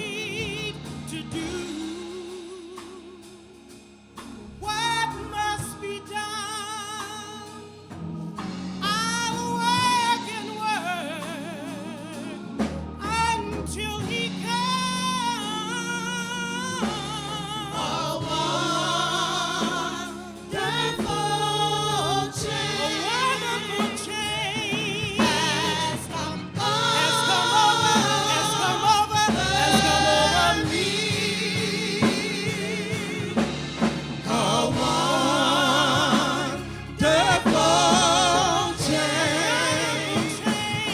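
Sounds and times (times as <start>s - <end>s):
gospel singing with vibrato: 0.0s - 40.9s
sustained low instrumental notes: 0.0s - 40.9s.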